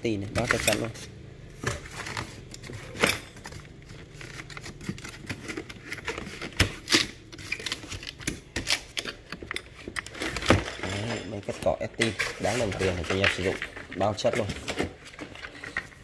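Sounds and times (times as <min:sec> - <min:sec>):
cardboard scraping and rustling: 0:00.2 - 0:08.7, 0:09.7 - 0:16.0.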